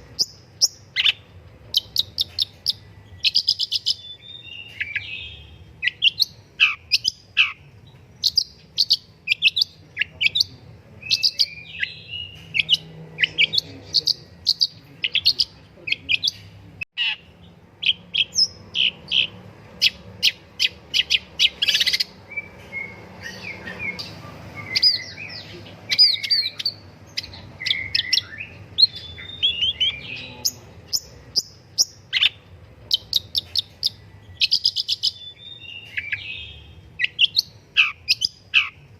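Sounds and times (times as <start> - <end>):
bird singing varied chirps: 0.0 - 38.9.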